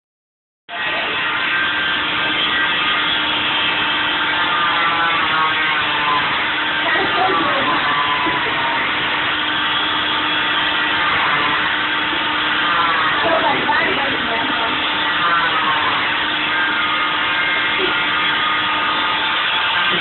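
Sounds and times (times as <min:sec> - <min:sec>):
oscillating cast saw running: 0:00.7 - 0:20.0.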